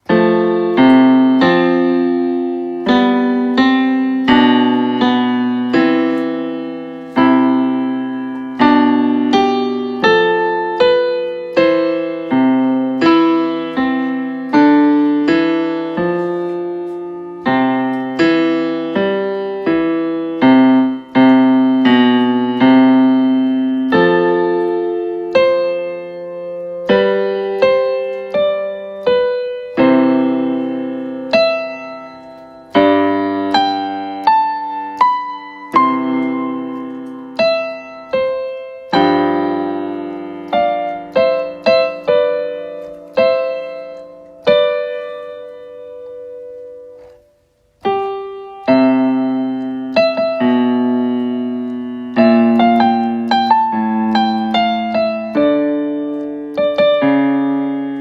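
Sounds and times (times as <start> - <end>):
electronic keyboard piano melody: 0.0 - 58.0.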